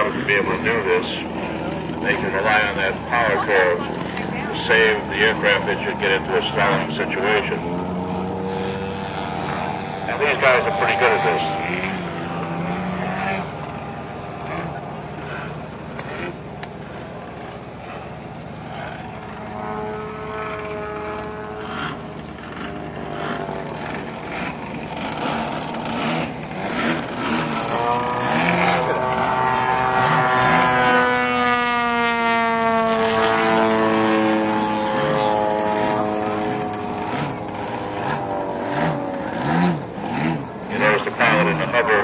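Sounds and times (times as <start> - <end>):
model airplane engine whining: 0.0 - 42.0.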